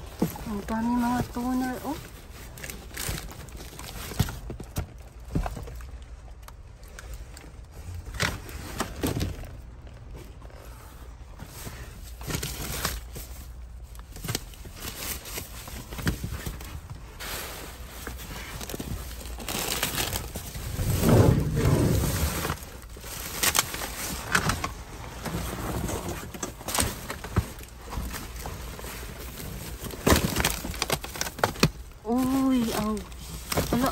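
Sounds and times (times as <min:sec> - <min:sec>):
plastic bags rustling: 0:00.0 - 0:33.9.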